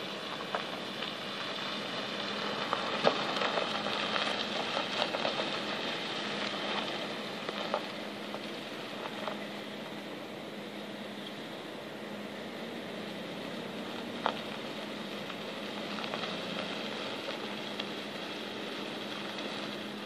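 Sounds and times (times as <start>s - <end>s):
truck engine and road noise: 0.0s - 20.0s
tyres crunching over gravel: 0.0s - 20.0s.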